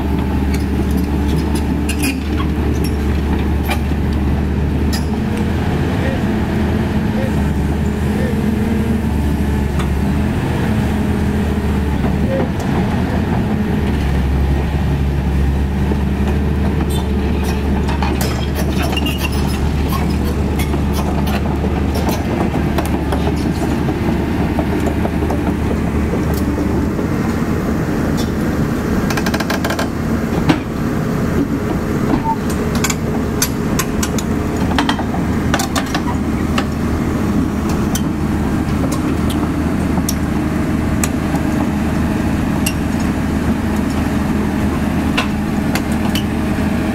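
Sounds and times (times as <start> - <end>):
diesel engine running: 0.0 - 46.9
steel tracks clanking: 0.0 - 46.9.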